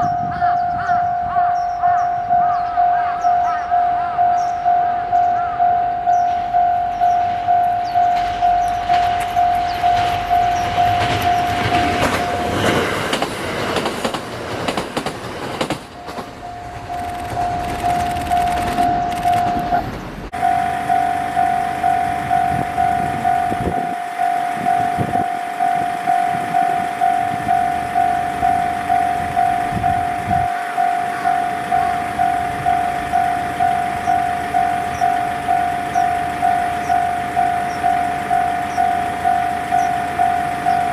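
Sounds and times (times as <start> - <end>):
diesel train rumbling: 0.0 - 40.9
level-crossing warning alarm ringing: 0.0 - 40.9.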